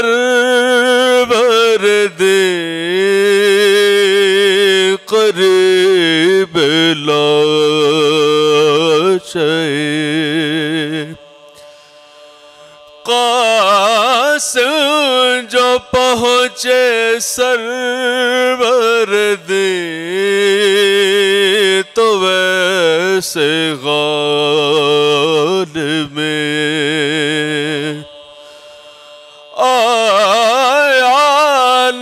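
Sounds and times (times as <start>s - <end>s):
man chanting into a microphone: 0.0s - 32.0s.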